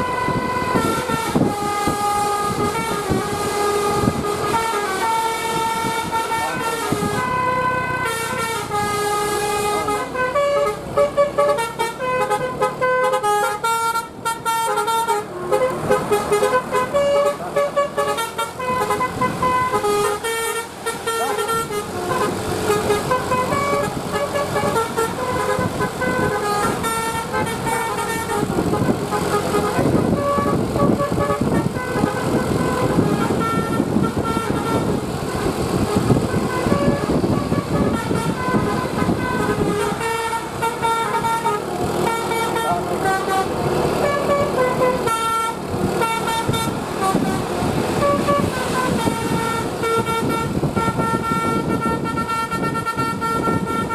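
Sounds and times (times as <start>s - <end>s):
musical air horn tune: 0.0s - 53.9s
rough vehicle noise: 0.0s - 53.9s.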